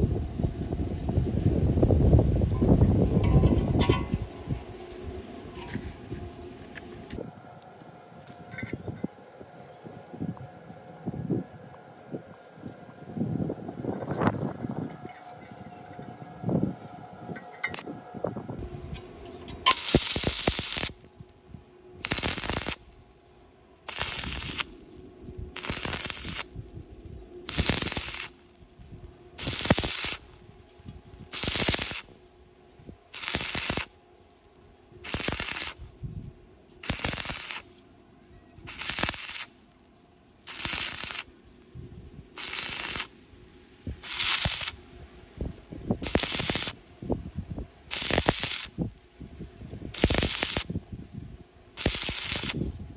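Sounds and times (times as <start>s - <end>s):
arc welding crackle: 0.0s - 52.9s.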